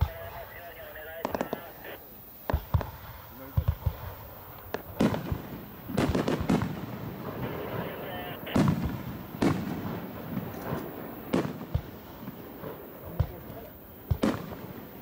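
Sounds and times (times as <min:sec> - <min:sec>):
firework booms with echo: 0:00.0 - 0:15.0.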